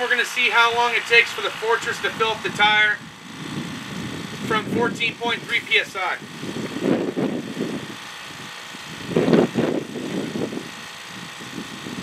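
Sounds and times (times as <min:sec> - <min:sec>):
air compressor running: 0:00.0 - 0:12.0.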